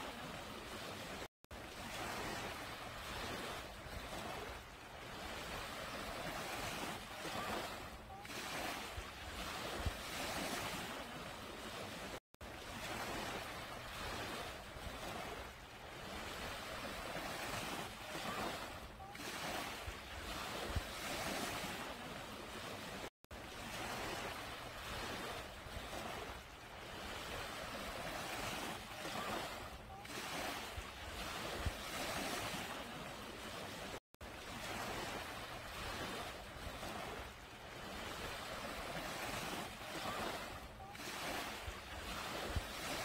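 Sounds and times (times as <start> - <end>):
small waves breaking on beach: 0.0 - 43.0.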